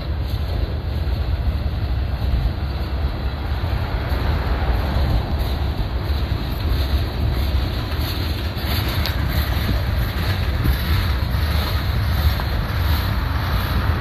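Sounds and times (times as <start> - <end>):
freight cars rumbling on rails: 0.0 - 14.0
wind buffeting microphone: 0.0 - 14.0.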